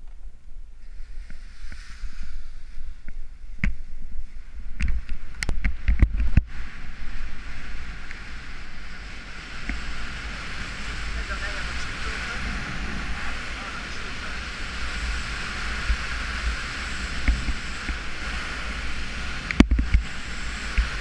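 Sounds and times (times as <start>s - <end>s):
low rumble and hiss: 0.0s - 21.0s
wind buffeting microphone: 0.0s - 21.0s.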